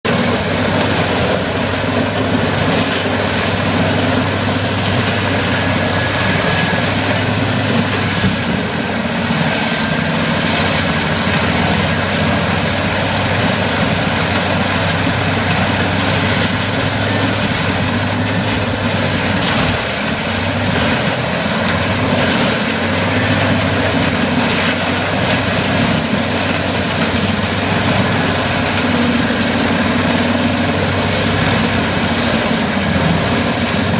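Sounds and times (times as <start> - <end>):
wood chipper engine drone: 0.0 - 33.9.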